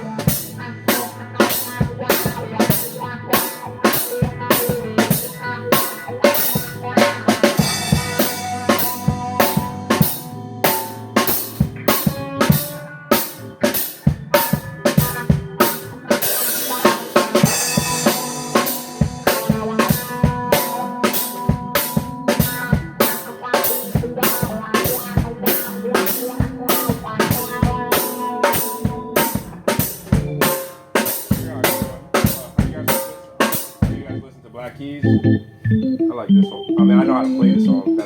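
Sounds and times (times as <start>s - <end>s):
band playing: 0.0s - 38.0s.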